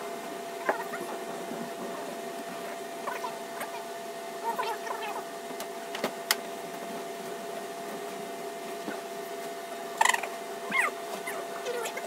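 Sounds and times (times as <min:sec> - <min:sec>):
steady electric hum: 0:00.0 - 0:12.0.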